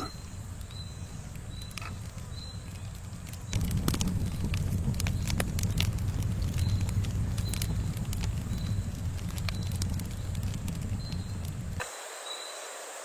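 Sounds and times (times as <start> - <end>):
campfire rumble: 0.0 - 12.2
fire crackling and popping: 0.0 - 12.2.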